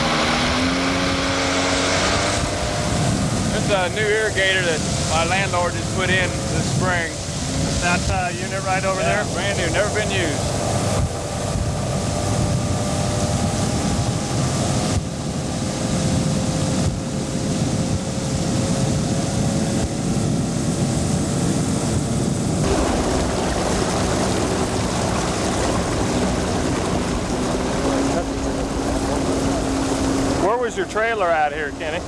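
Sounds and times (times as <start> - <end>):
outboard motor running: 0.0 - 32.0
water noise: 0.0 - 32.0
wind: 0.0 - 32.0.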